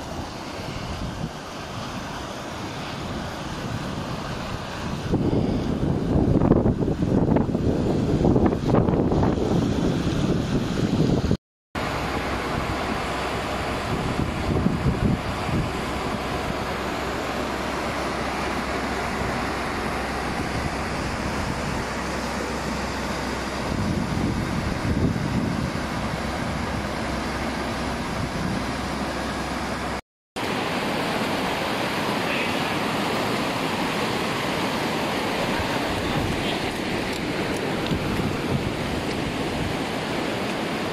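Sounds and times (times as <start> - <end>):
wind buffeting microphone: 0.0 - 30.0, 33.2 - 40.9
river water rushing: 0.0 - 40.9.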